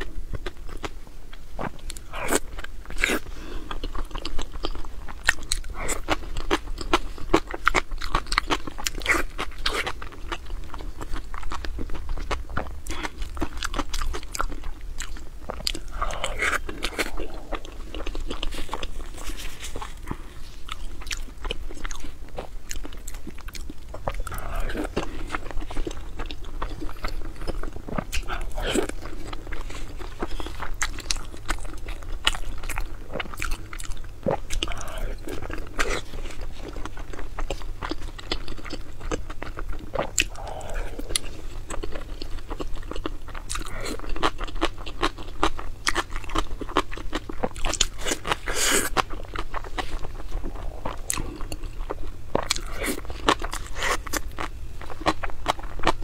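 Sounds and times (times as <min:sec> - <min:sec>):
crunchy chewing of food: 0:00.0 - 0:56.0.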